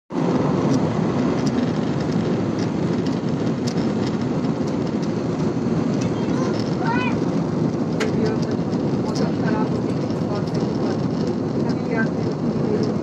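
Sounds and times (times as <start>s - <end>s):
airliner cabin engine rush: 0.1s - 13.0s.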